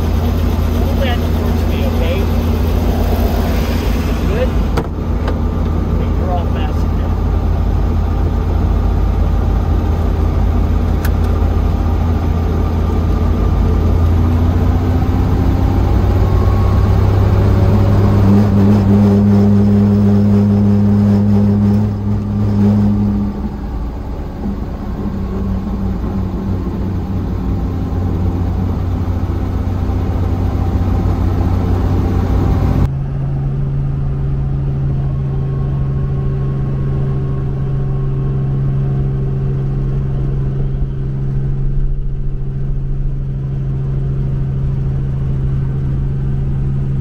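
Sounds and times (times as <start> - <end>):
helicopter engine and rotor drone: 0.0 - 18.2, 23.4 - 47.0.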